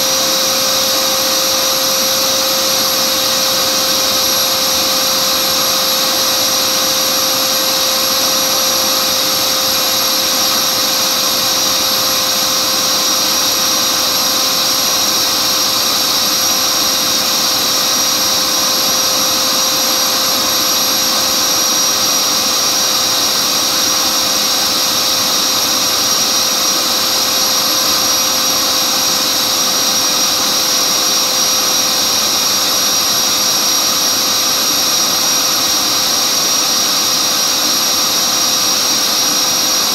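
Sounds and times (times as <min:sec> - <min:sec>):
electric fan high-pitched whine: 0:00.0 - 0:39.9.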